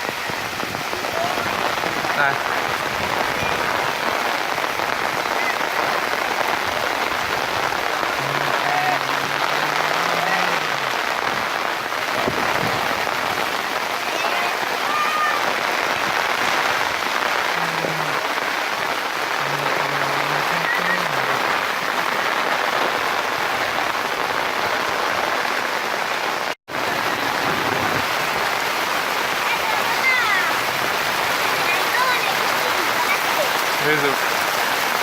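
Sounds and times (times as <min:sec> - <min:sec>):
steady rain pouring: 0:00.0 - 0:35.0.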